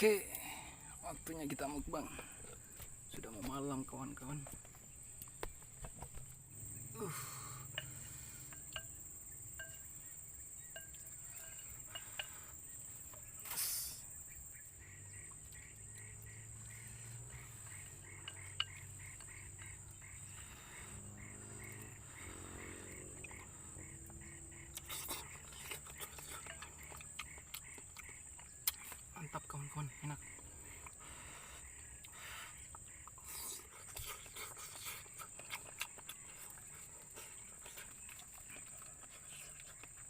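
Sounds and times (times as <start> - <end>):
insects droning: 0.0 - 40.0
rhythmic insect chirp: 0.0 - 40.0.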